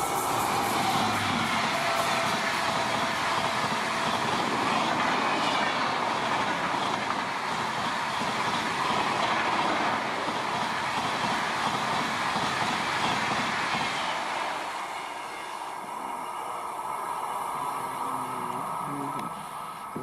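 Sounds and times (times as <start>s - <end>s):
train passing at high speed: 0.0s - 20.0s.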